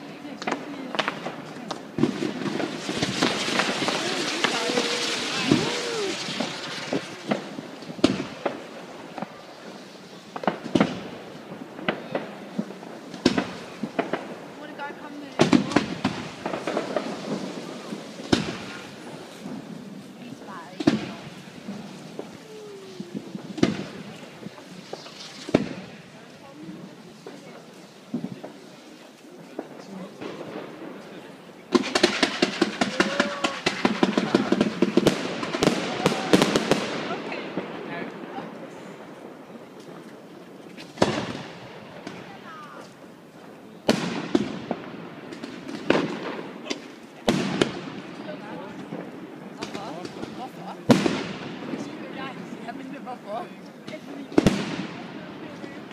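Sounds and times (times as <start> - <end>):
fireworks and firecrackers banging: 0.0 - 55.9.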